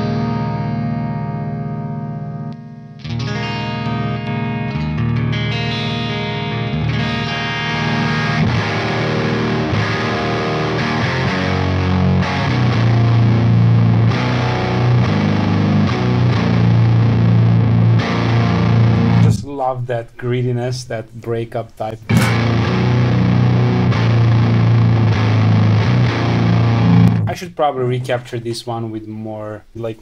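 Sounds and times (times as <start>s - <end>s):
distorted electric guitar: 0.0s - 19.4s, 22.1s - 27.4s.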